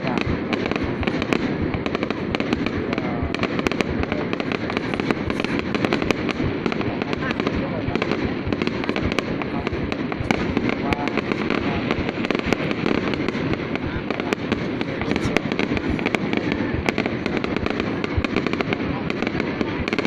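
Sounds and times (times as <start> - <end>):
faint voices: 0.0 - 20.0
fireworks crackling: 0.0 - 20.0.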